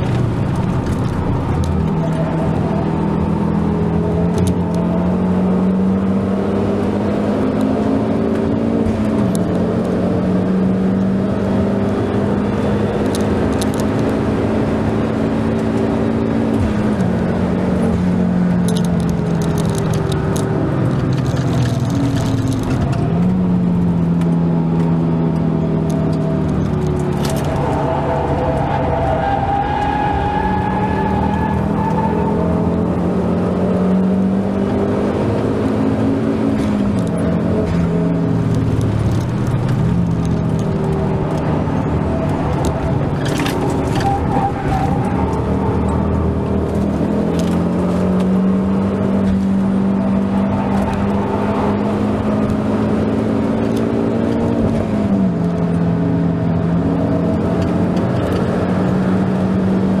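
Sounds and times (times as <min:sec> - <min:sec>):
car engine from inside cabin: 0:00.0 - 0:28.9, 0:30.0 - 1:00.0
tyre and wind noise: 0:00.0 - 1:00.0.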